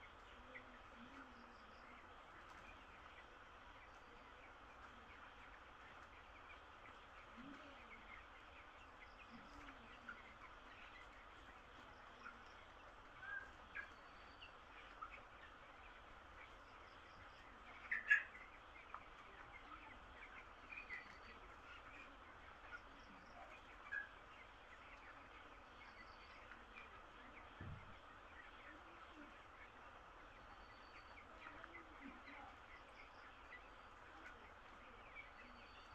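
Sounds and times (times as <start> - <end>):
chicks peeping: 0.0 - 35.9.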